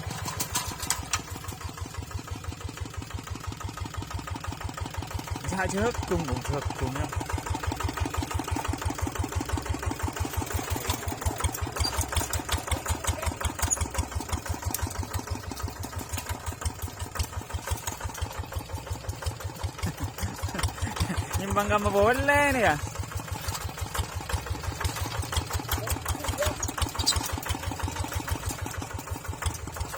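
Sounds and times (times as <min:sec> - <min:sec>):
tractor engine idling: 0:00.0 - 0:29.9.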